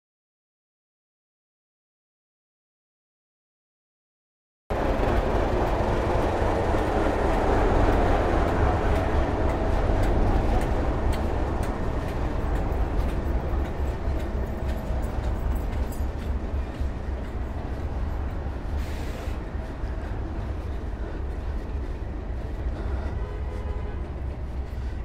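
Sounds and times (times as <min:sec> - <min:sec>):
diesel locomotive engine rumble: 0:04.7 - 0:25.0
wheels clicking over rail joints: 0:04.7 - 0:25.0.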